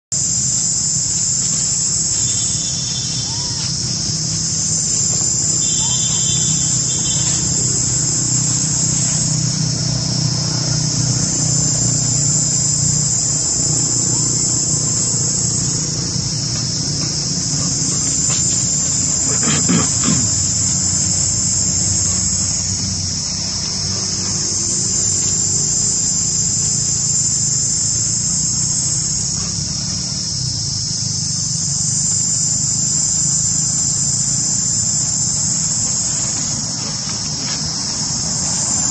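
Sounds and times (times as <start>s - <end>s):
insects droning in trees: 0.1s - 38.9s.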